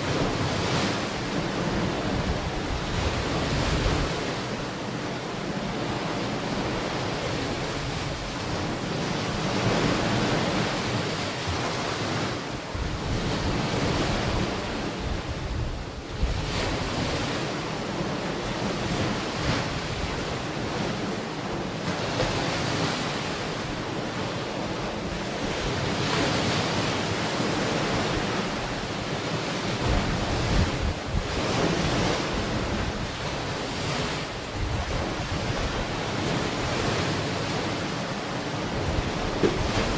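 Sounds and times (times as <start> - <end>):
wind buffeting microphone: 0.0 - 23.0, 23.6 - 39.9
ocean surf washing onto beach: 0.0 - 39.9.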